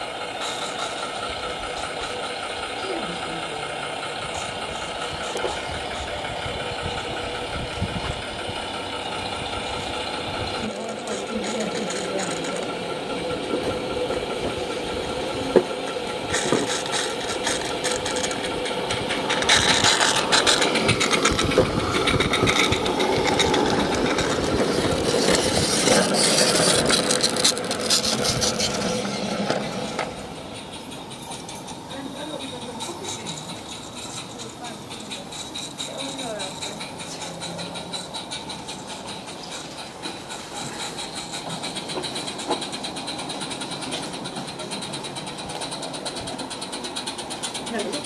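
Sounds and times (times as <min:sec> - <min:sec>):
model train clattering on track: 0:00.0 - 0:48.0.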